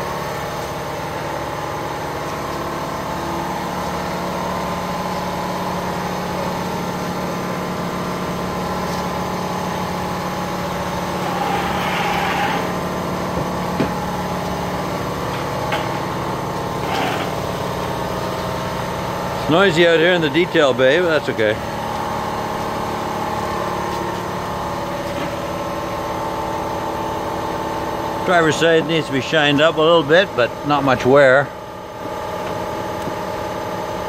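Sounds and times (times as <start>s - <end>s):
machinery droning: 0.0s - 31.5s.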